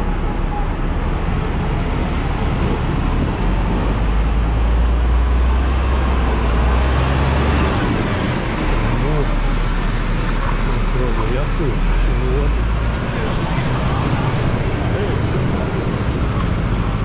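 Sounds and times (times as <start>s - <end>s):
city street traffic: 0.0s - 17.0s
large vehicle engine rumbling: 0.0s - 17.0s.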